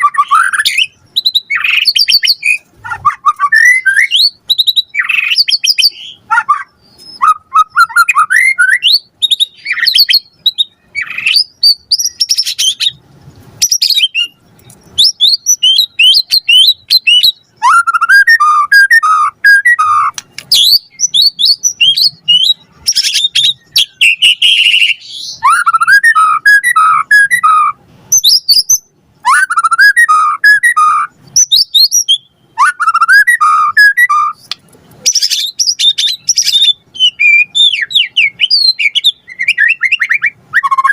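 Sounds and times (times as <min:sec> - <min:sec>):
songbird singing whistles and trills: 0:00.0 - 0:13.0, 0:13.6 - 0:40.9.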